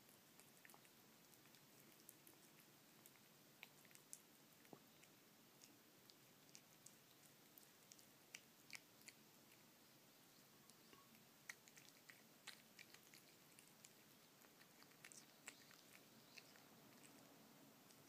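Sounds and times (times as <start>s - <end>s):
cat licking and chewing food: 0.0s - 18.0s.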